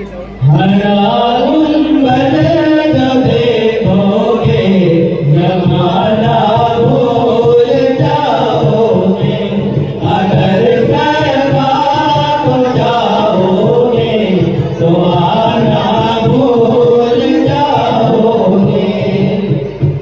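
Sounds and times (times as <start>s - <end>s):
men chanting together: 0.5s - 20.0s.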